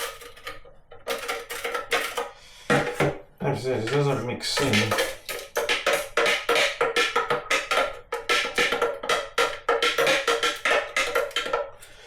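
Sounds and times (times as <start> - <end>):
utensil knocking plastic tank: 1.0 - 11.8.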